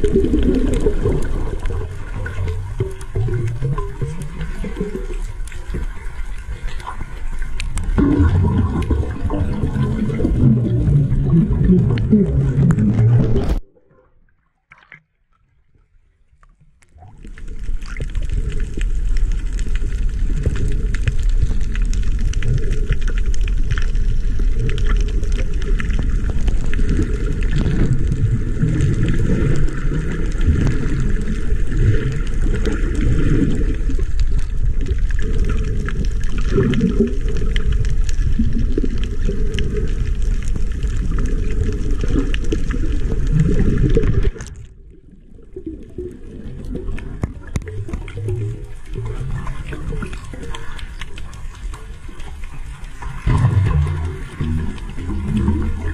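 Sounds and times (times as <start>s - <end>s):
muffled underwater rushing and gurgling: 0.0s - 14.4s, 16.2s - 55.9s.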